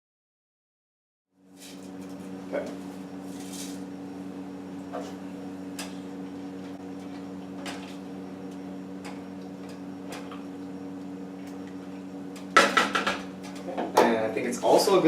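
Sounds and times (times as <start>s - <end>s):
low kitchen hum: 1.4s - 15.0s.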